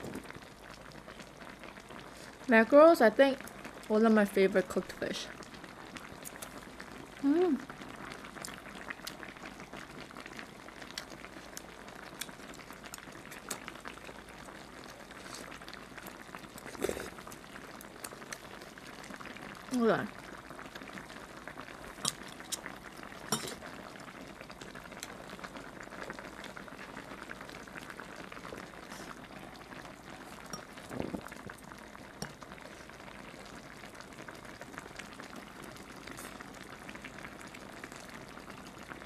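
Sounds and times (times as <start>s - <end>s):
stew bubbling in a pot: 0.0s - 39.0s.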